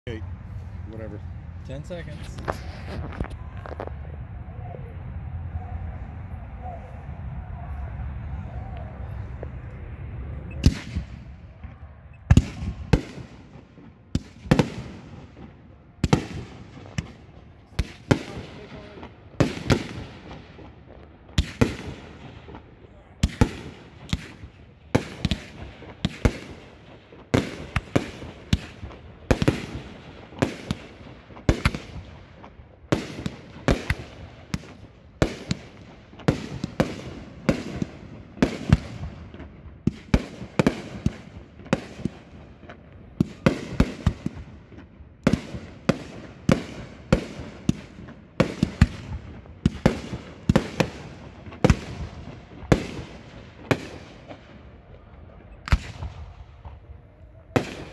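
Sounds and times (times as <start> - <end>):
fireworks firing and bursting: 1.1 - 57.9.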